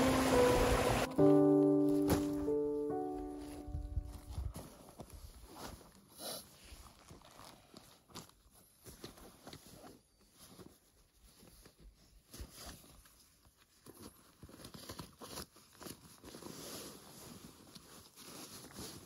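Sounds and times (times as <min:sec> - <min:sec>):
fabric backpack rustling: 0:01.2 - 0:19.0.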